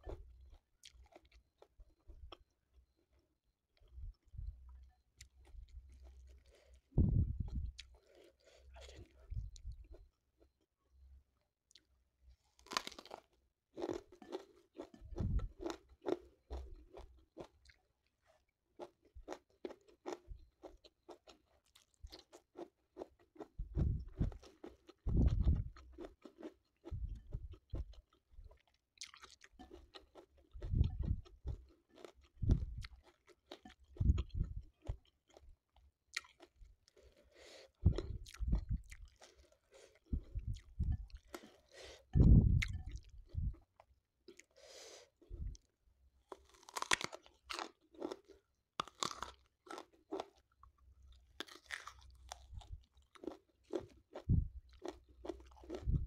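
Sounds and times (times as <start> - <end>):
chewing and crunching food: 0.0 - 10.7, 11.4 - 56.0.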